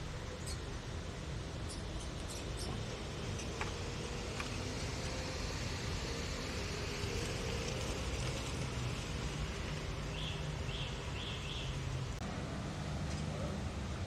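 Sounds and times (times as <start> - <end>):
low hum of traffic: 0.0 - 14.0.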